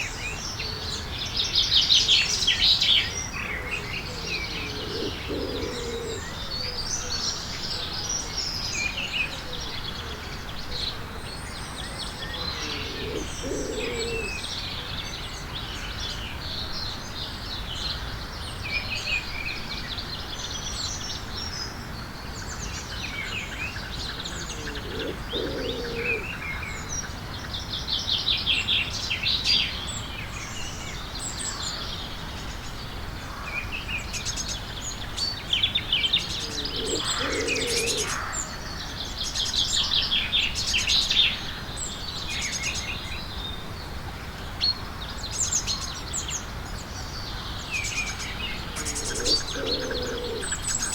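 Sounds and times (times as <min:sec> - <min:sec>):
small birds chirping and twittering: 0:00.0 - 0:50.9.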